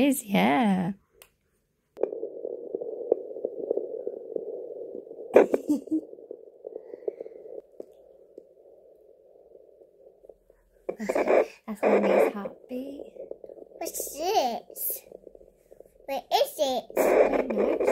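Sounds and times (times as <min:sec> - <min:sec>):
doppler speaker hissing and crackling: 0:01.9 - 0:17.9.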